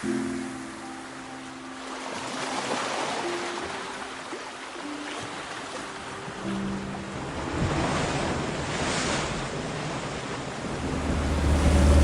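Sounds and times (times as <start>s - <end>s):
ocean waves crashing on shore: 0.0s - 12.0s.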